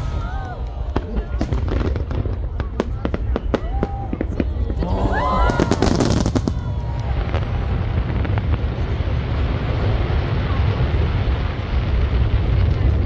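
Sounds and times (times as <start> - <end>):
faint fireworks pops: 0.0 - 13.0.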